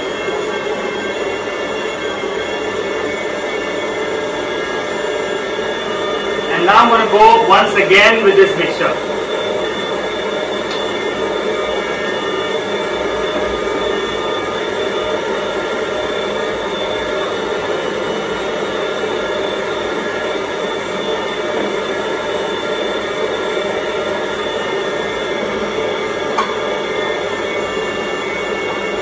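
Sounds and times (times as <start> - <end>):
stand mixer mincing meat: 0.0 - 29.0.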